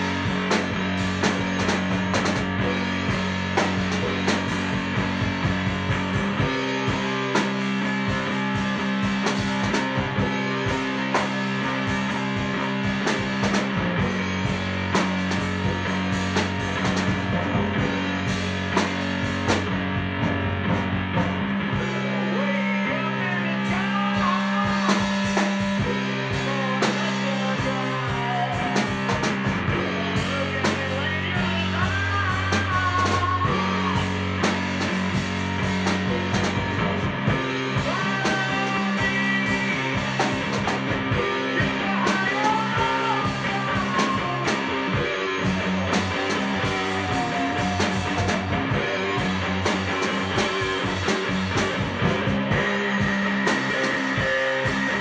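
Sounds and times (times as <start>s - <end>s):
bass line: 0.0s - 55.0s
drums: 0.0s - 55.0s
guitar: 0.0s - 55.0s.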